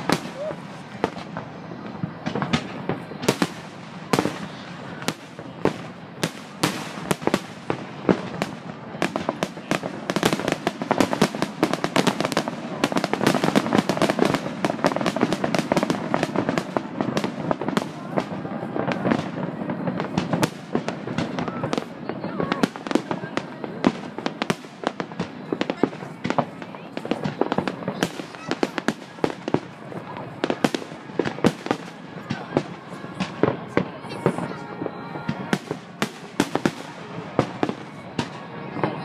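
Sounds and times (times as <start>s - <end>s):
fireworks crackling: 0.0s - 39.0s.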